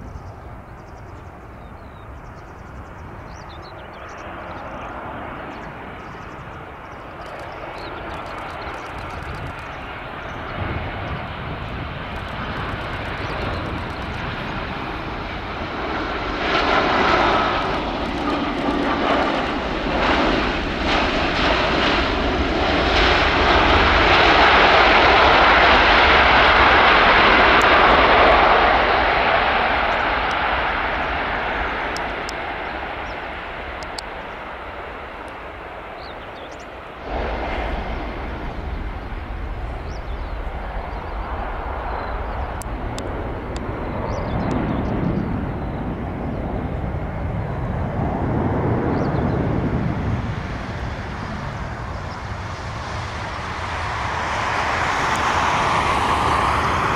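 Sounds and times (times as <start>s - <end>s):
jet airliner landing: 0.0s - 56.9s.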